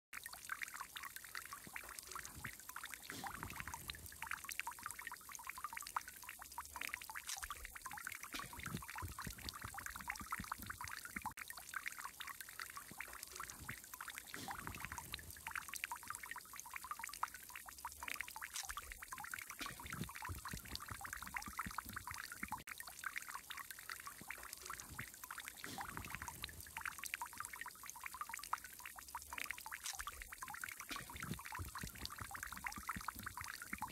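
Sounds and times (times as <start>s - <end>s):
water fountain splashing: 0.2s - 33.9s.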